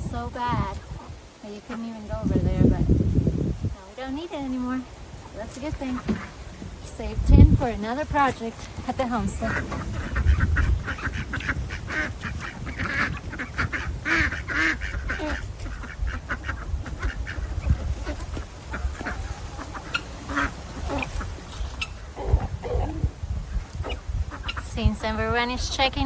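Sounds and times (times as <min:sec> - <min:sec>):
ducks quacking: 0:00.1 - 0:02.8, 0:03.9 - 0:26.0.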